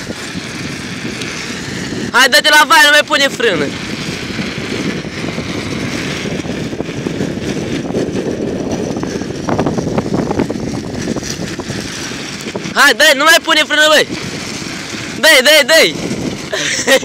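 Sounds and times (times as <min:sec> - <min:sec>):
vehicle road and wind noise: 0:00.0 - 0:17.0.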